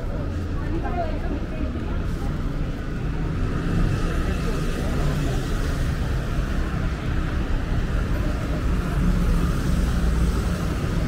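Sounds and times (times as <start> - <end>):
outdoor urban noise: 0.0 - 11.0
road traffic rumble: 0.0 - 11.0.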